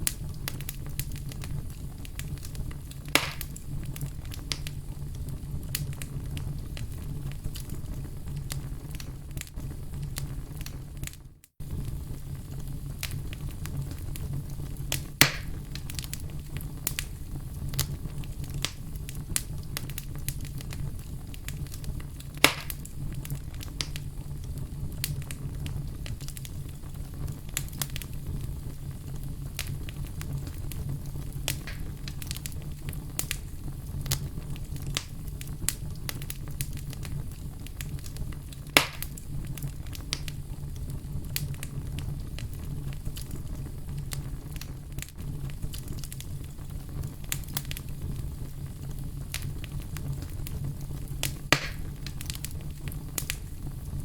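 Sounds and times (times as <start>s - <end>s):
loud fire pops: 0.0s - 54.0s
wood fire crackling: 0.0s - 54.0s.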